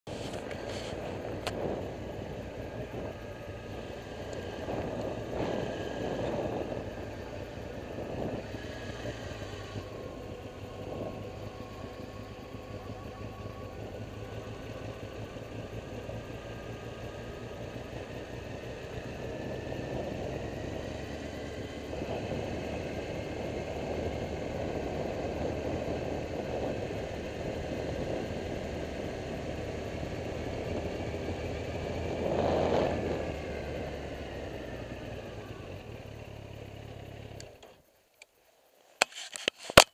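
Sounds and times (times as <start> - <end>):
wind and road noise: 0.0 - 39.9
motorcycle engine running: 0.1 - 38.1.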